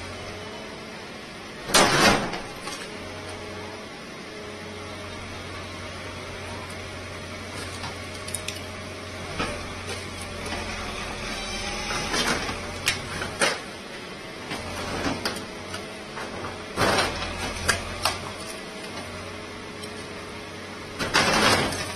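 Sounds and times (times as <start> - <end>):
backhoe engine running: 0.0 - 21.9.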